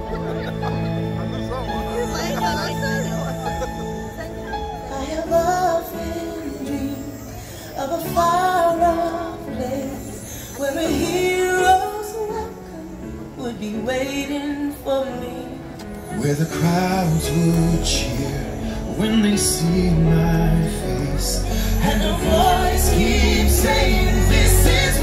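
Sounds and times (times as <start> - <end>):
soundtrack music with singer: 0.0 - 25.0.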